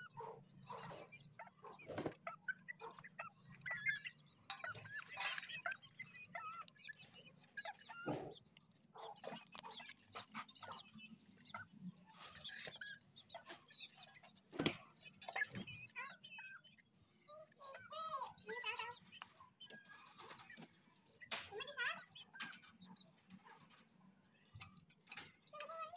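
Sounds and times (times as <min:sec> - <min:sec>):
chickens clucking and chirping: 0:00.0 - 0:25.9.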